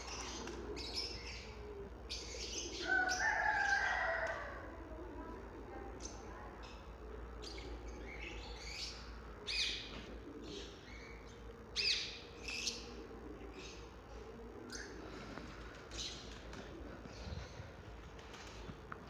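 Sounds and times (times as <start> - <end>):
caged birds chirping: 0.0 - 18.9.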